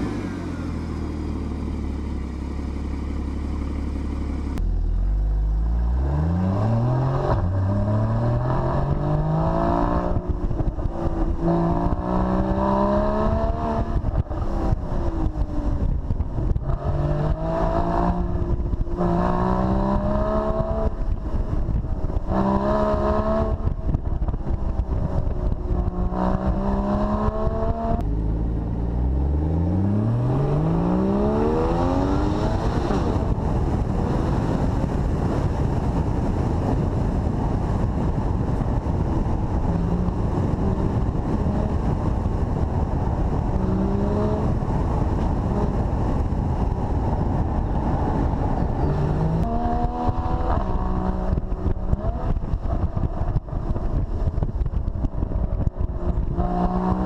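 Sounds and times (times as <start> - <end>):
car engine revving: 0.0 - 15.5, 16.1 - 35.0, 38.5 - 57.0
road and wind noise: 0.0 - 57.0.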